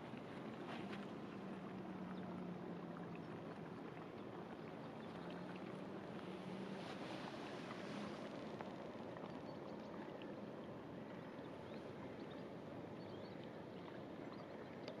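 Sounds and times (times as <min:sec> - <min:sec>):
passing barge engine and water: 0:00.0 - 0:15.0.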